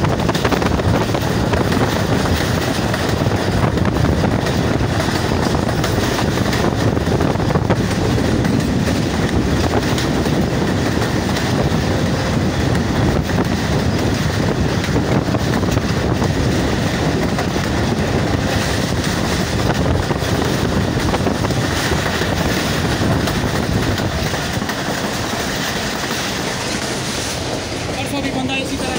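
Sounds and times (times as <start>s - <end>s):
train wheels rumbling and clattering: 0.0s - 28.9s.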